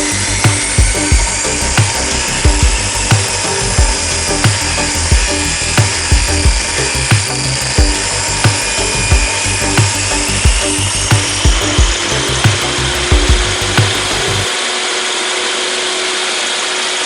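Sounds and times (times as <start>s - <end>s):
background music with beat: 0.0s - 14.5s
table saw cutting wood: 0.0s - 17.0s.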